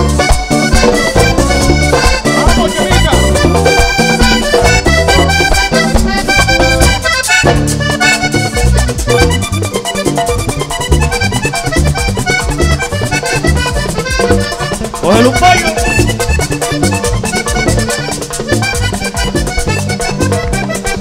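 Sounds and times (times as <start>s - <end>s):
bass guitar: 0.0s - 21.0s
button accordion melody: 0.0s - 21.0s
percussion rhythm: 0.0s - 21.0s.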